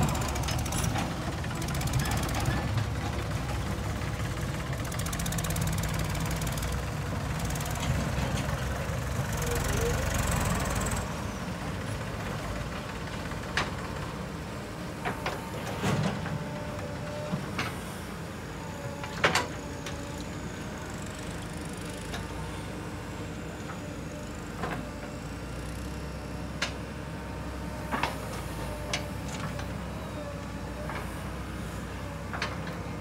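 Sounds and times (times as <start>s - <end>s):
diesel engines running: 0.0s - 33.0s.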